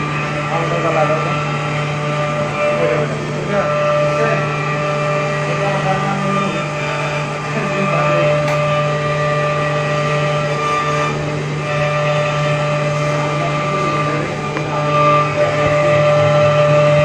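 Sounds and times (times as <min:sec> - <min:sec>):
cnc spindle milling steel whine: 0:00.0 - 0:17.0.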